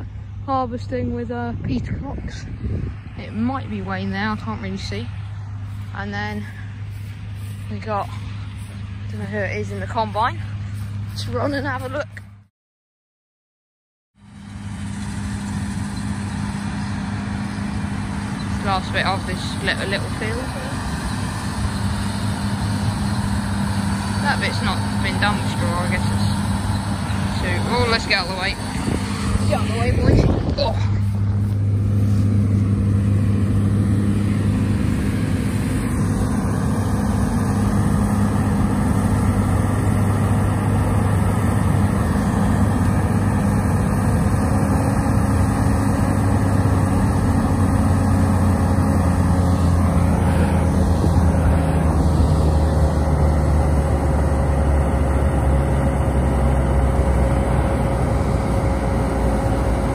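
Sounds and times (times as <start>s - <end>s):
combine harvester drone: 0.0s - 12.5s, 14.2s - 59.9s.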